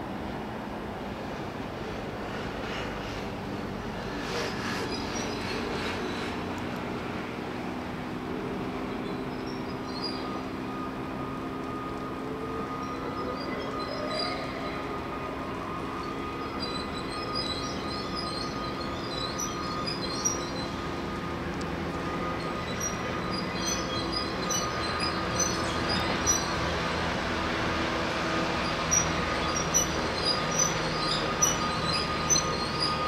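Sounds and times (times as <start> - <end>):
electric train motor hum and whine: 6.4 - 33.0.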